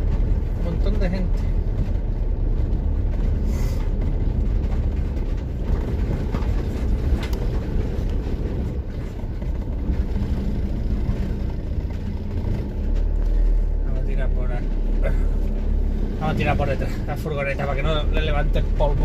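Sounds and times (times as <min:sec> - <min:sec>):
light knocks and rattles: 0:00.0 - 0:16.2
road noise on dirt track: 0:00.0 - 0:19.0
van engine rumble: 0:00.0 - 0:19.0.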